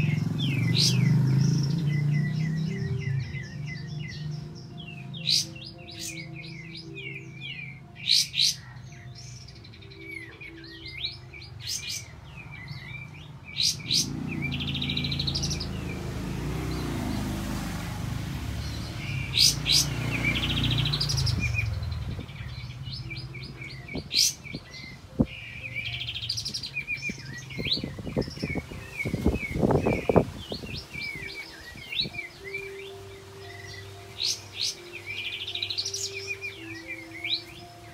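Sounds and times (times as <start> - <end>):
bird singing with trills: 0.0 - 37.9.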